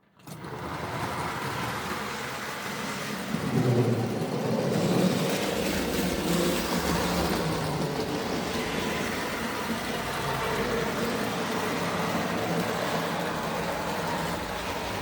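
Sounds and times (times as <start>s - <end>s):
model trains rumbling on track: 0.1s - 15.0s.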